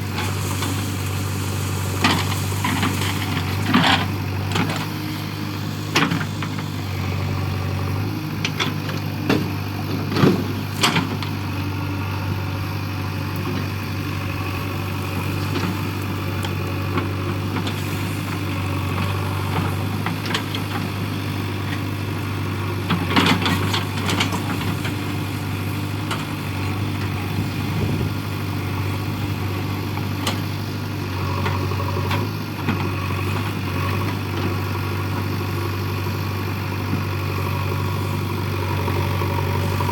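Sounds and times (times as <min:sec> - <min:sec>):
diesel engine running at low revs: 0:00.0 - 0:39.9.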